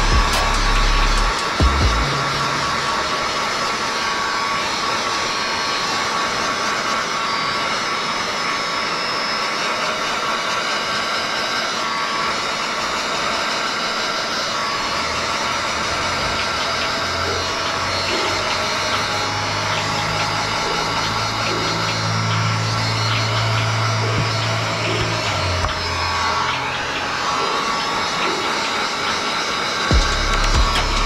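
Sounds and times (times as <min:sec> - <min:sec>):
heat gun blowing with whine: 0:00.0 - 0:31.0.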